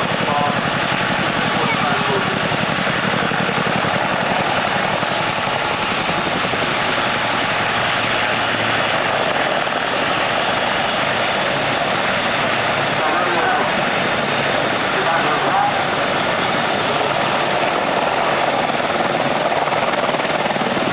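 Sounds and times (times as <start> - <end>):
helicopter rotors and engines: 0.0 - 20.9.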